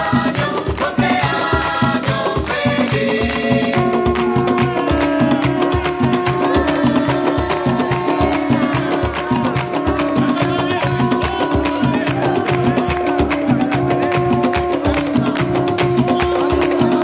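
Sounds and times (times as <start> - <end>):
instrumental background music with drums: 0.0 - 17.0.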